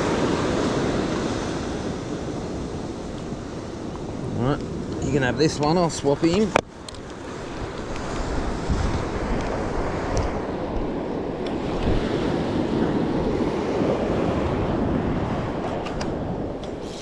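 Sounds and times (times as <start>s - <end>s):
small waves breaking on beach: 0.0s - 17.0s
wind buffeting microphone: 0.0s - 17.0s.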